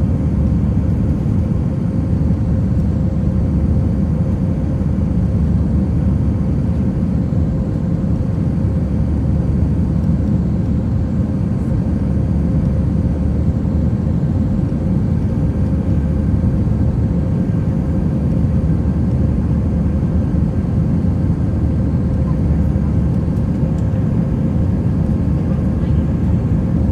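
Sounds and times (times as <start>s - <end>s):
airplane cabin engine noise: 0.0s - 26.9s.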